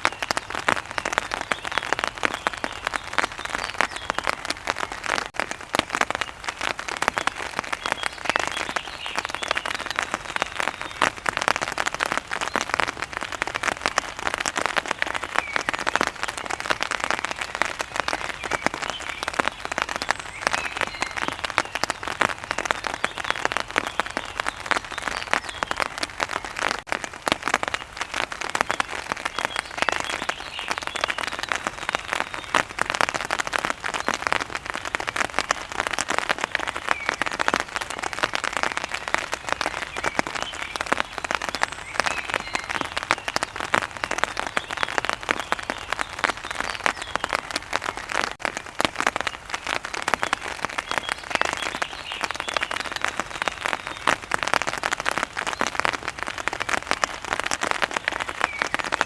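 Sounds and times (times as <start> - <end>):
heavy rain on hard surface: 0.0 - 59.0.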